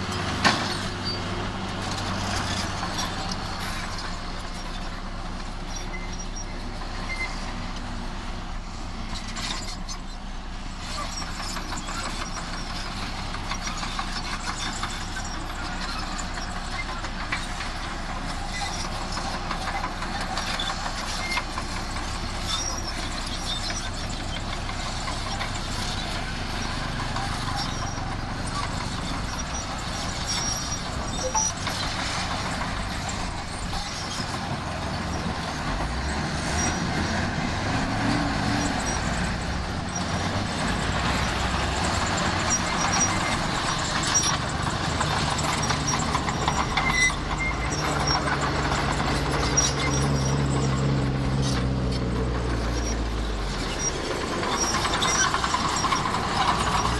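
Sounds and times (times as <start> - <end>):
heavy diesel machinery running: 0.0 - 56.9.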